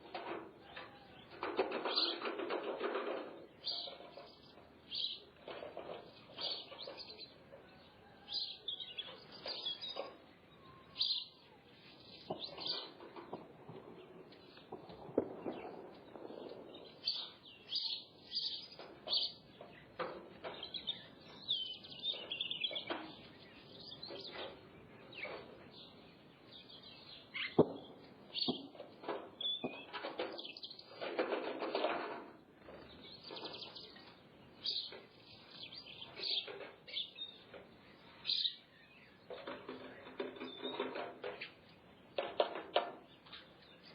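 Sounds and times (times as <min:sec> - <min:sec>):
birds chirping: 0:00.0 - 0:31.2, 0:32.4 - 0:43.9.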